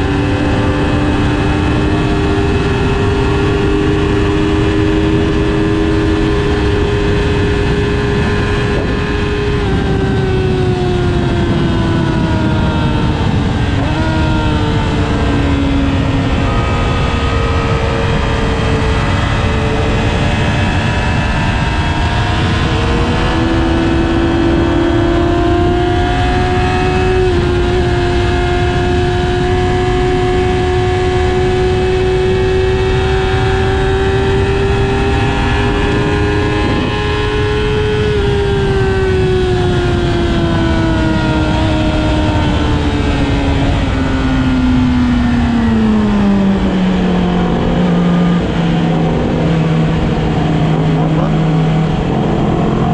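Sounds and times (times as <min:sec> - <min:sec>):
motorcycle engine while riding: 0:00.0 - 0:52.9
wind rush: 0:00.0 - 0:52.9.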